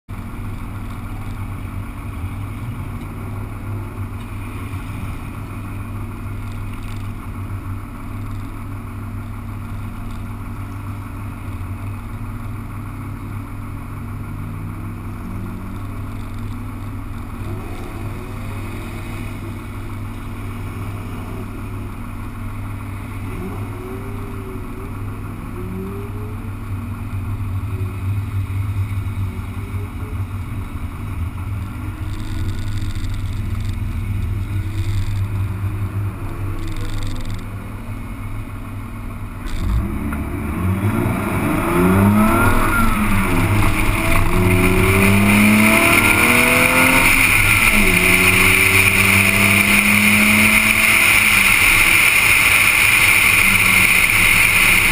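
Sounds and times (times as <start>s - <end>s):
car engines idling: 0.0s - 54.9s
car engines revving: 0.0s - 54.9s.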